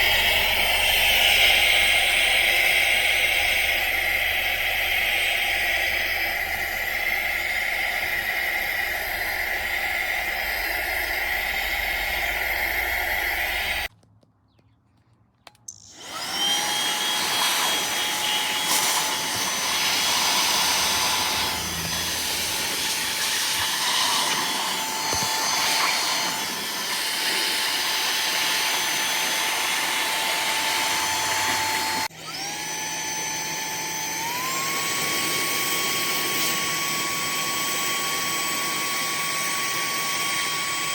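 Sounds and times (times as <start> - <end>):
handheld vacuum cleaner whining: 0.0 - 13.9, 15.5 - 40.9.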